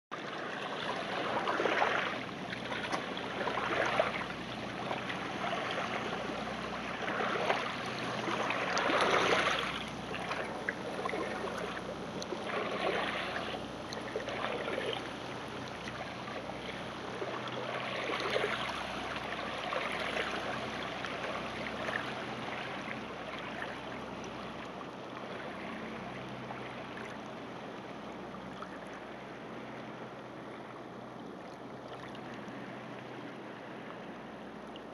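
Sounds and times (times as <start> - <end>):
water rushing and lapping: 0.1 - 34.9.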